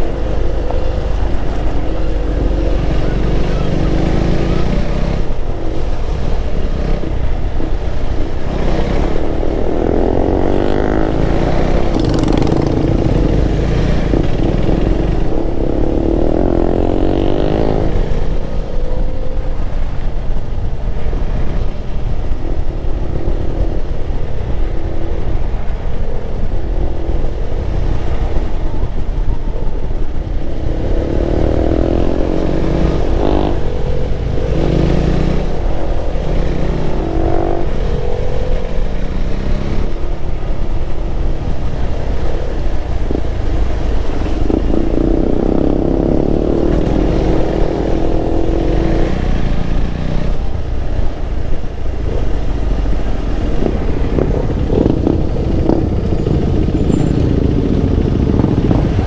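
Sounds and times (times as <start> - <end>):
motorcycle engine accelerating: 0.0 - 20.2, 26.7 - 59.0.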